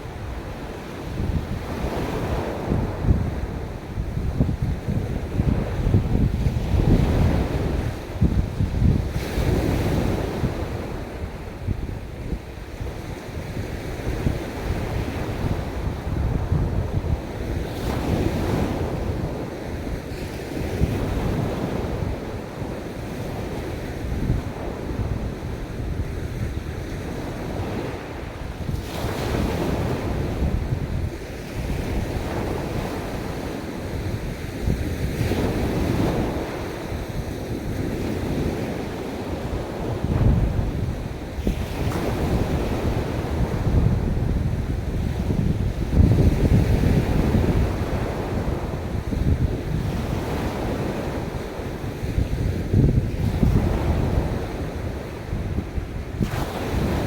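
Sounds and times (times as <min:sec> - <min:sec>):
ocean waves breaking on beach: 0:00.0 - 0:57.0
wind buffeting microphone: 0:00.0 - 0:57.0.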